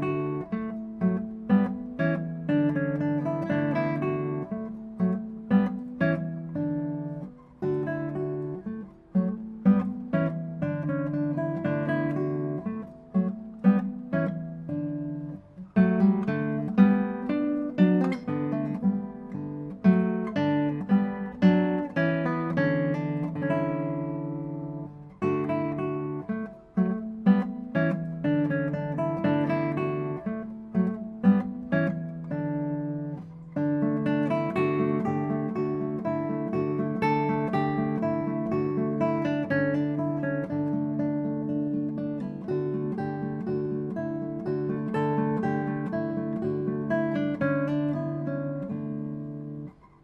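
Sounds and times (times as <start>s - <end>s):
acoustic guitar chords: 0.0s - 50.0s.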